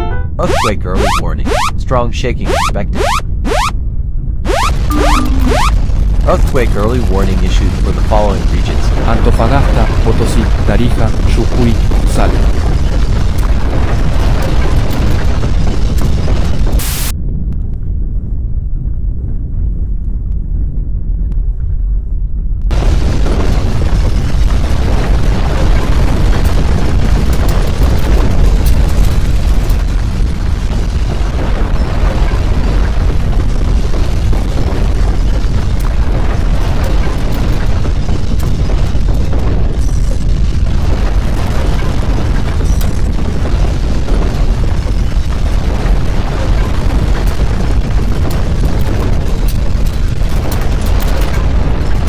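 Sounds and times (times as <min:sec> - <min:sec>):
deep earthquake rumble: 0:00.3 - 0:52.0
crackles and rattles: 0:00.4 - 0:52.0.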